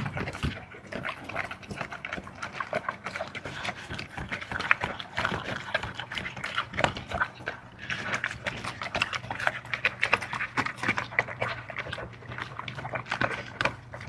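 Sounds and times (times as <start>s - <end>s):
dog chewing noisily: 0.0s - 14.0s.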